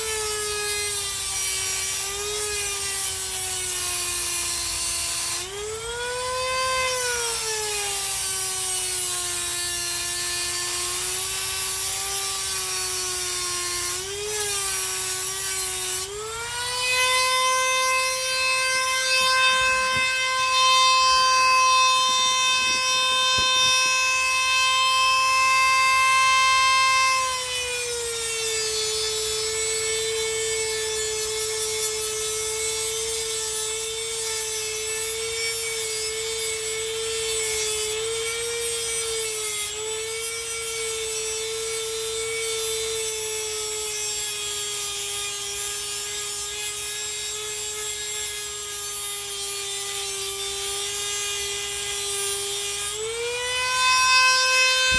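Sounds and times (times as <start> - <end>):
electric power tool whining: 0.0 - 54.9.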